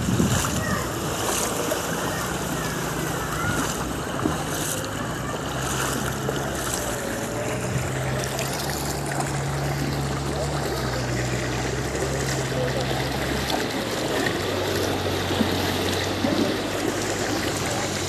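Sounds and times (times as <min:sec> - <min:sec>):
water draining through manhole: 0:00.0 - 0:18.0.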